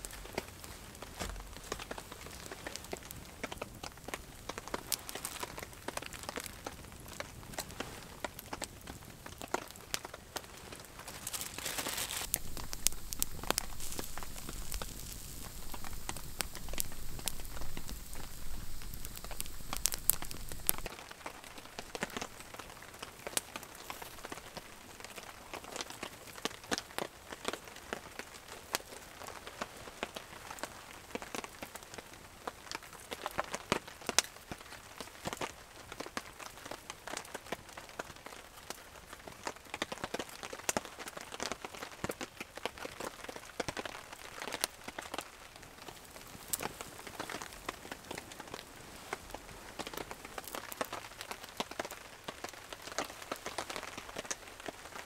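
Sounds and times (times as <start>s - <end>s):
campfire crackling: 0.0s - 55.0s
rain pattering: 0.0s - 55.0s.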